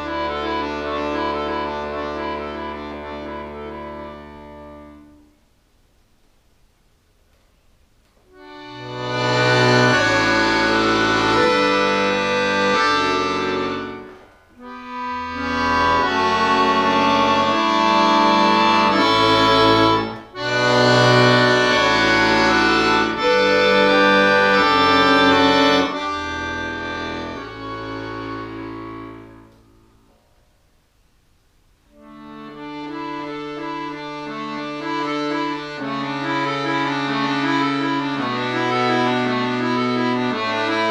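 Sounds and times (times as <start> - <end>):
button accordion playing chords: 0.0 - 5.3, 8.3 - 30.0, 31.9 - 40.9.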